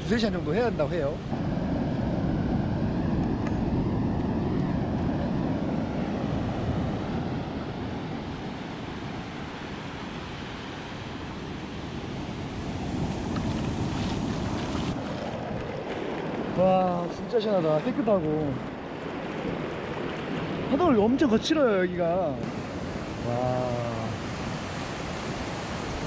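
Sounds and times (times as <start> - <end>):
surf washing onto beach: 0.0 - 26.0
wind buffeting microphone: 0.0 - 26.0.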